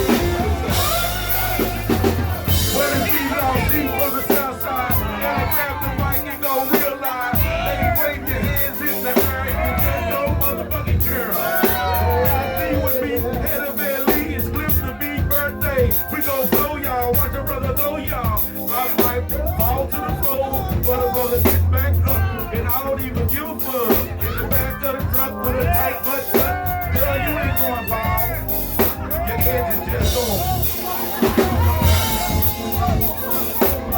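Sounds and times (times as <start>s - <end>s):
drum kit: 0.0s - 33.9s
heavy bass line: 0.0s - 33.9s
person singing: 0.0s - 33.9s.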